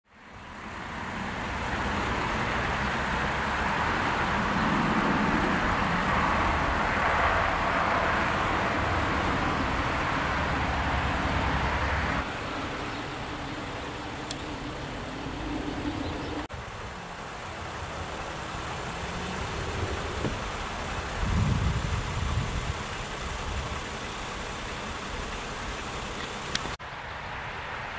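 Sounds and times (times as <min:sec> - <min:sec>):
road traffic rushing: 0:00.0 - 0:27.9.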